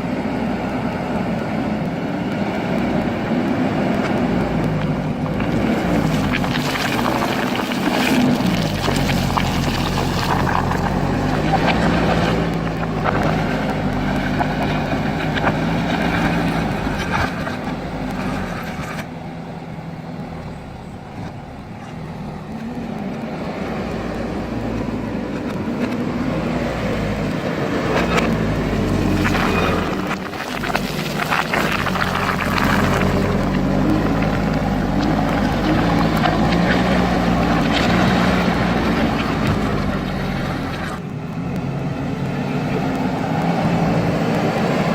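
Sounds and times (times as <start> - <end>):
diesel engine working: 0.0 - 44.9
gravel and stone knocks and scrapes: 1.8 - 19.1, 21.2 - 44.9.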